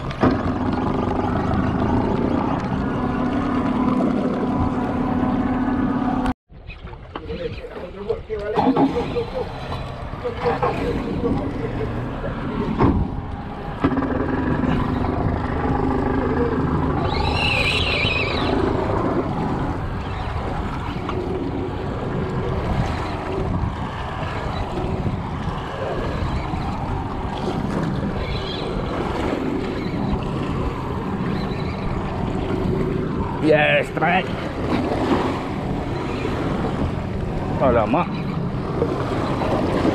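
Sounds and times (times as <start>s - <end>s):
sea noise: 0.0s - 39.9s
wind: 0.0s - 39.9s.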